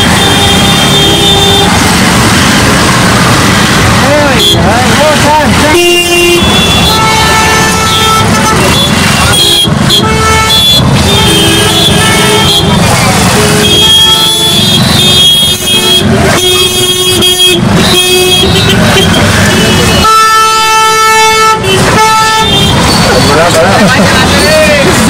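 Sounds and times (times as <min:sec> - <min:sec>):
vehicle horns honking: 0:00.0 - 0:02.0, 0:04.1 - 0:25.0
low rumble of engines: 0:00.0 - 0:25.0.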